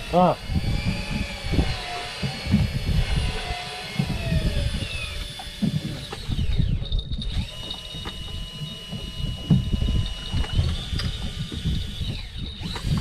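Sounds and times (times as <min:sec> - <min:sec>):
faint gliding whining tones: 0:00.0 - 0:13.0
wind buffeting microphone: 0:00.0 - 0:13.0.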